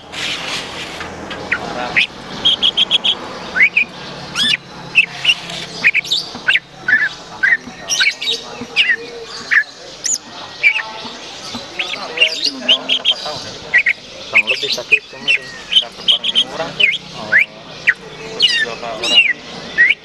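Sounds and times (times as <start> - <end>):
bird singing chirps and whistles: 1.5 - 20.0.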